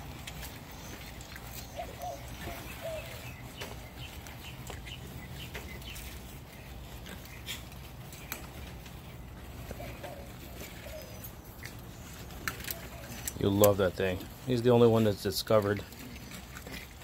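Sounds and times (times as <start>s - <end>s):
puppies scuffling: 0.0s - 17.0s
puppies whimpering: 0.0s - 17.0s.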